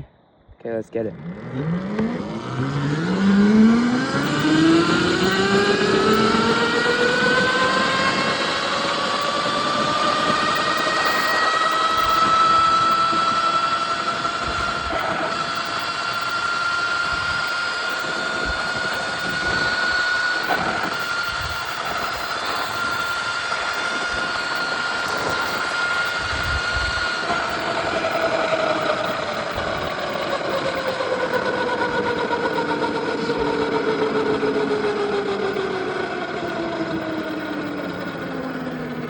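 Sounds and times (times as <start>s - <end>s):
wind and road noise: 0.6s - 39.0s
electric motor whining: 1.0s - 39.0s.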